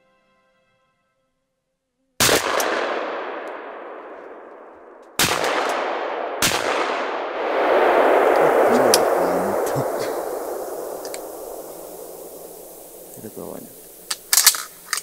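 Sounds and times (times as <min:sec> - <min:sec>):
shotgun shots with echo: 0:02.2 - 0:14.5.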